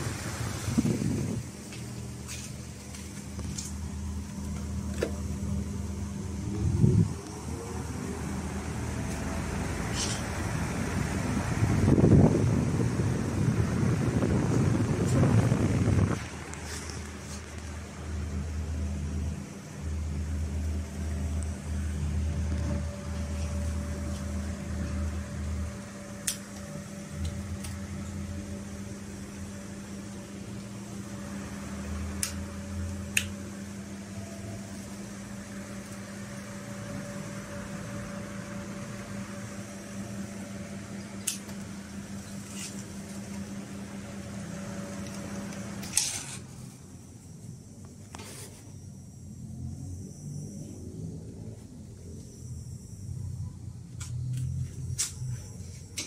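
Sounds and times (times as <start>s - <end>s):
fan motor hum: 0.0s - 56.0s.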